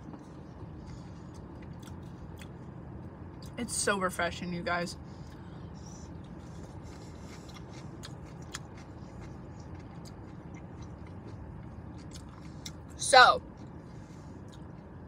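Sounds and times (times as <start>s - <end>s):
person chewing food: 0.0s - 3.5s, 5.1s - 14.9s
low background hum: 0.0s - 15.0s.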